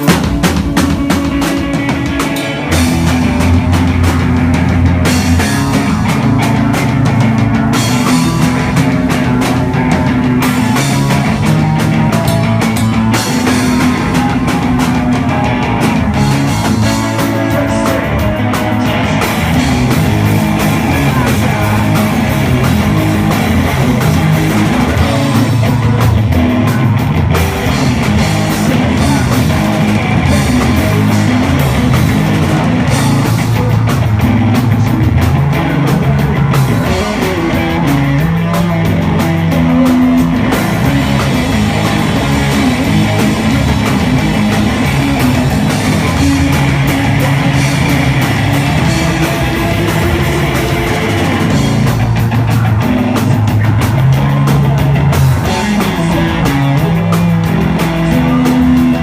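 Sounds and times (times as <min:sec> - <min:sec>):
drums: 0:00.0 - 0:59.0
electric guitar: 0:00.0 - 0:59.0.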